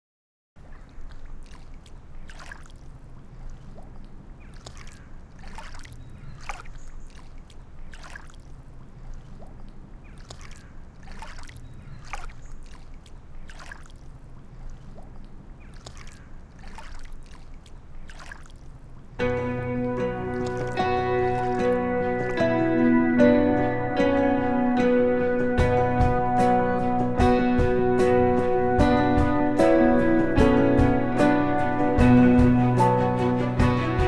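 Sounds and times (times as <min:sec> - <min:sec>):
water splashing and lapping: 0:00.6 - 0:34.0.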